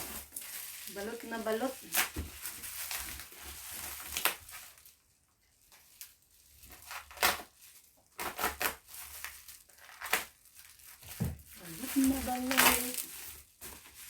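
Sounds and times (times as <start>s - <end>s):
packing wrap crinkling and tearing: 0.0s - 14.0s.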